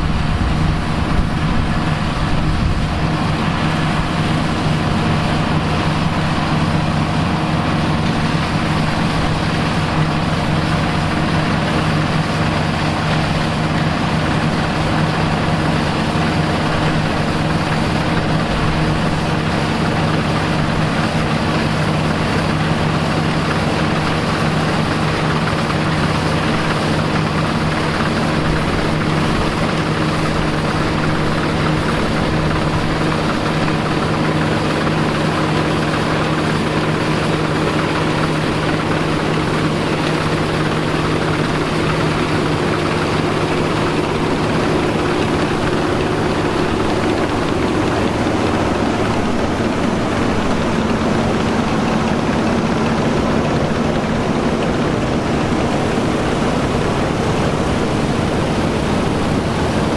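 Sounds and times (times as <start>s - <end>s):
farm machine engine running: 0.0s - 59.9s.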